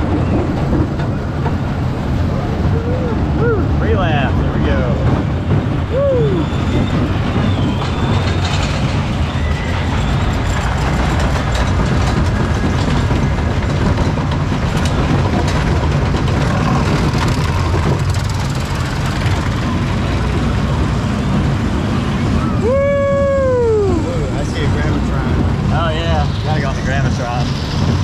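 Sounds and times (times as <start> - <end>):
roller coaster wheels rumbling: 0.0 - 28.0.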